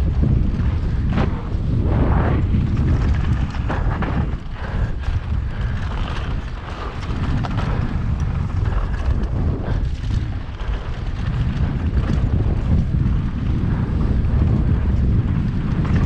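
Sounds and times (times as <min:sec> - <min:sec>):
bike knocks and rattles: 0:00.0 - 0:16.0
tyres rumbling on dirt: 0:00.0 - 0:16.0
wind buffeting microphone: 0:00.0 - 0:16.0.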